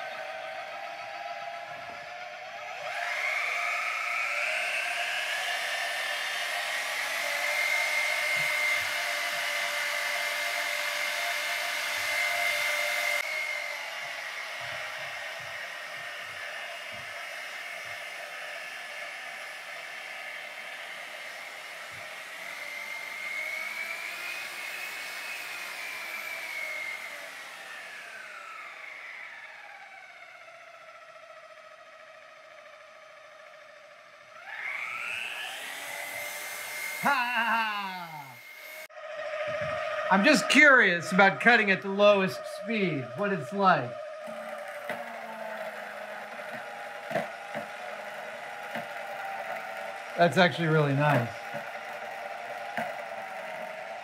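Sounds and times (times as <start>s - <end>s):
bandsaw motor whining: 0.0s - 54.0s.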